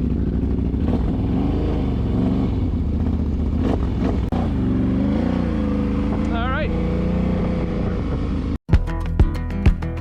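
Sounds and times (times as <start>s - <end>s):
atv engine running: 0.0s - 8.6s.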